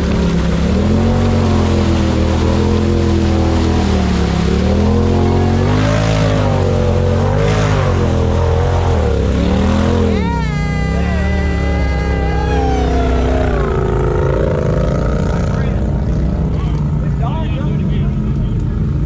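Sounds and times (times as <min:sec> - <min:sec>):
tires spinning in mud: 0:00.0 - 0:19.0
utility vehicle engine revving: 0:00.0 - 0:19.0.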